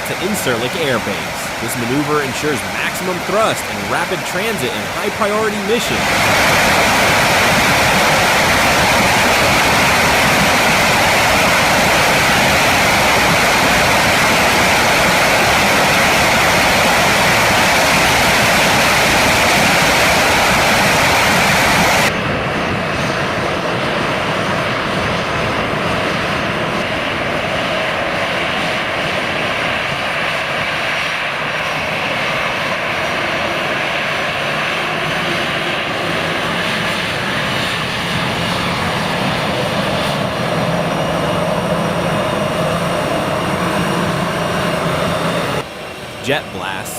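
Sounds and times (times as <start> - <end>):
aircraft engines rushing: 0.0 - 46.9.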